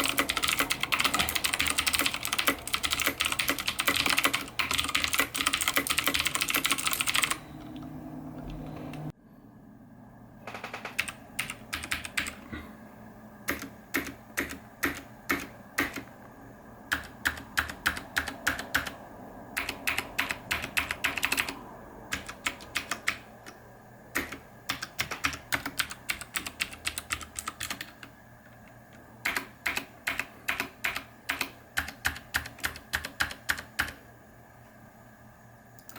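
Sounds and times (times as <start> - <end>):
clicky mechanical keyboard typing: 0.0 - 9.1, 10.5 - 12.4, 13.5 - 16.1, 16.9 - 19.0, 19.6 - 28.2, 29.2 - 34.0.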